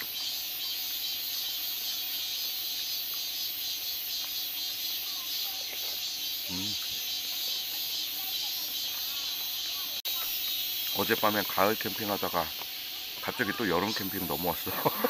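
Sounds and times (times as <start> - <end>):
cicadas singing: 0.0 - 15.0.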